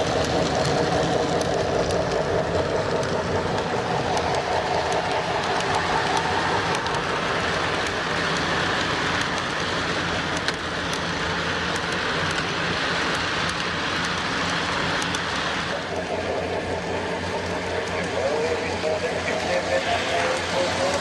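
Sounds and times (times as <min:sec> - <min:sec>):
model train motor whirring: 0:00.0 - 0:21.0
wheels clicking over rail joints: 0:00.0 - 0:21.0.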